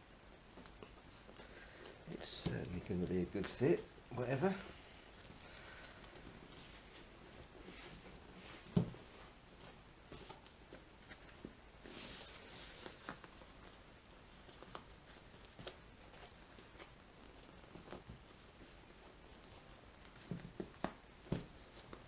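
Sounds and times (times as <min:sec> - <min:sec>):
fabric rustling: 0:00.2 - 0:22.0.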